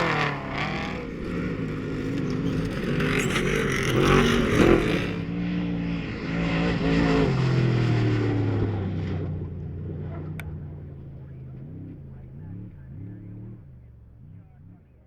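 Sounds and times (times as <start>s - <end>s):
race vehicle engine pulling hard: 0.0s - 15.0s.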